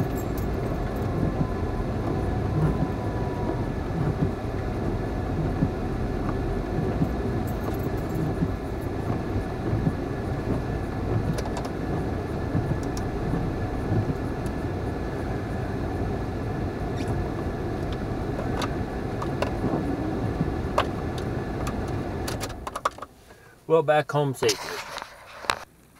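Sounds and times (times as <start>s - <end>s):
engine and tyres rumbling: 0.0s - 23.7s.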